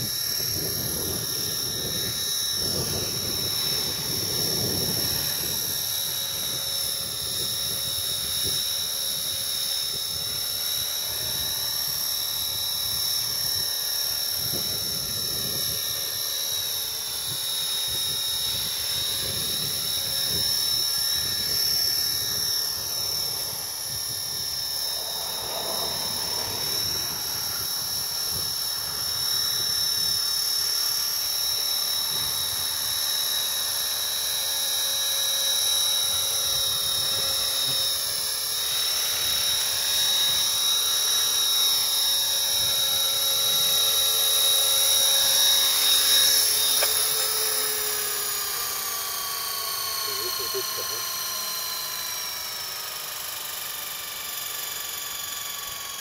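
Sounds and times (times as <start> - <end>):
rc helicopter whine: 0.0 - 56.0.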